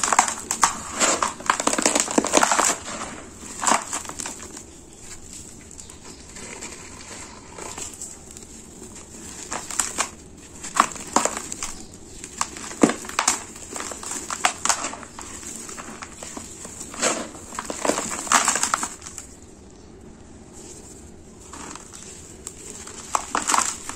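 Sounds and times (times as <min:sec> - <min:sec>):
hands crunching dry cement powder: 0:00.0 - 0:19.4, 0:20.5 - 0:23.9.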